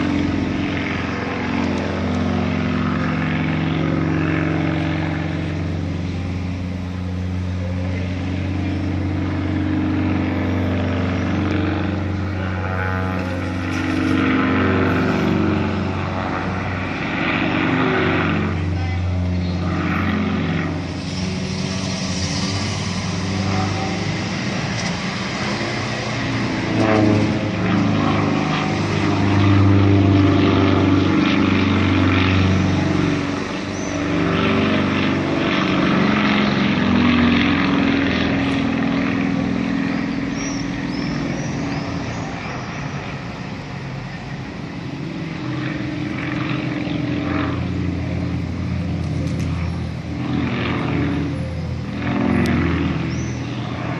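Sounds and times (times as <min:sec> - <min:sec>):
propeller aircraft engines droning: 0:00.0 - 0:53.9.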